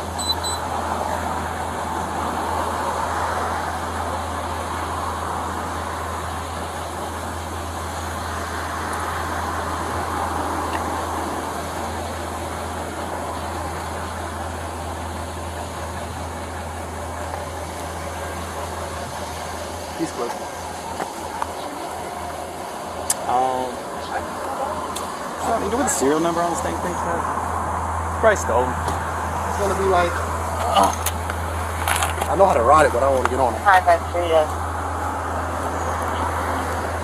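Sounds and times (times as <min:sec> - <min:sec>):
traffic noise: 0:00.0 - 0:37.0.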